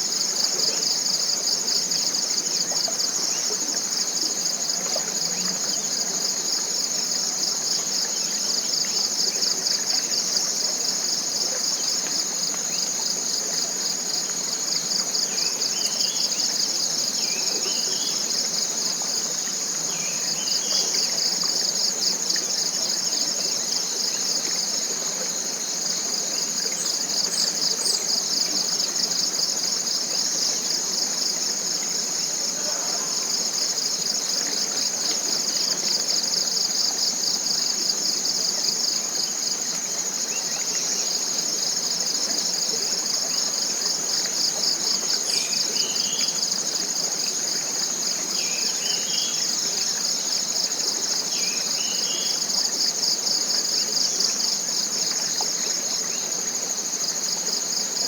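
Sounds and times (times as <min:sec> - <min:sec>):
insect chorus trilling: 0:00.0 - 0:58.0.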